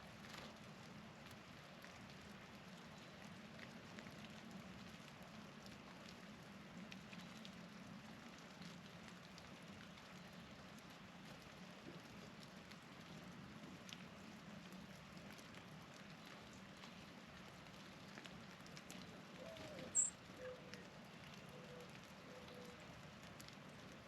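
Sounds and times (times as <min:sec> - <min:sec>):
light ticks of precipitation: 0:00.0 - 0:24.0.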